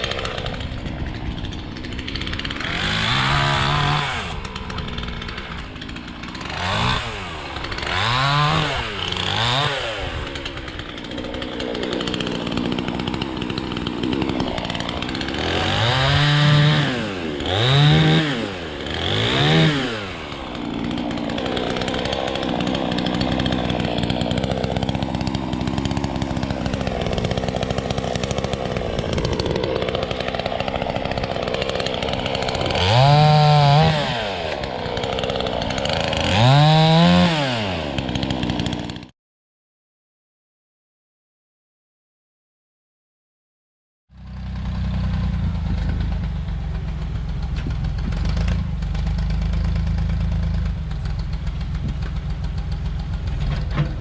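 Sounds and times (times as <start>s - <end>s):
engine revving: 2.3s - 39.1s, 44.2s - 54.0s.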